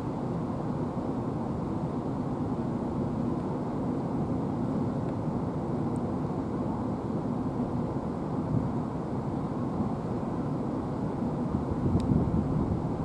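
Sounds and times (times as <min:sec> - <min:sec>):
jet airliner drone overhead: 0:00.0 - 0:13.0.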